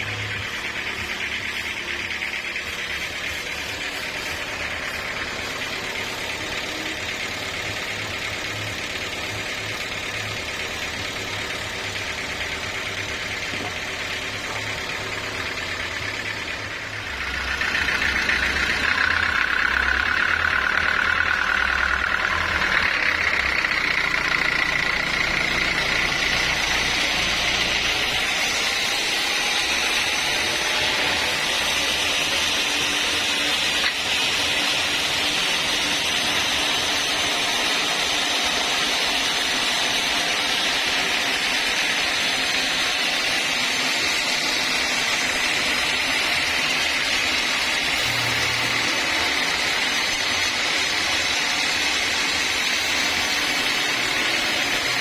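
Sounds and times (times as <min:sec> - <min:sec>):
sawmill saw cutting log: 0:00.0 - 0:55.0.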